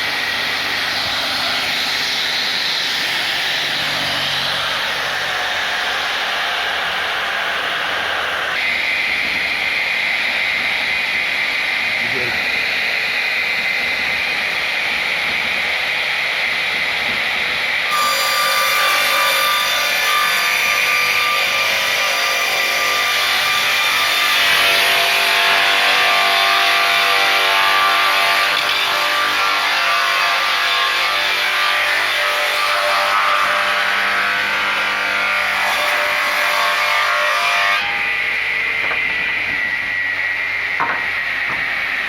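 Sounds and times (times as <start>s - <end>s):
machine saw cutting wood: 0.0s - 42.0s.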